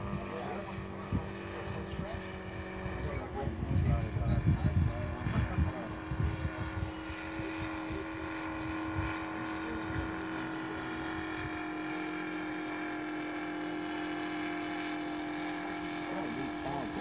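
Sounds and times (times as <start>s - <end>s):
model airplane engine running: 0.0s - 17.0s.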